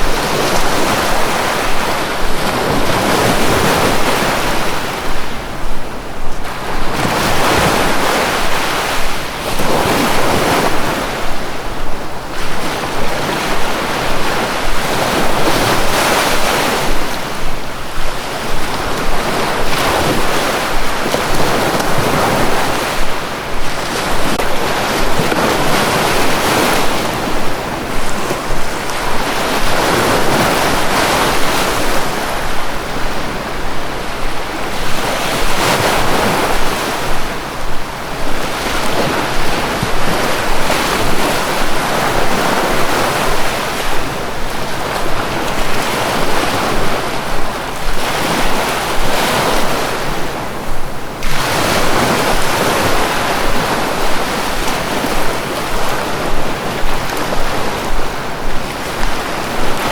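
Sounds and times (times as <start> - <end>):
sea waves breaking on shore: 0.0 - 59.9
wind: 0.0 - 59.9.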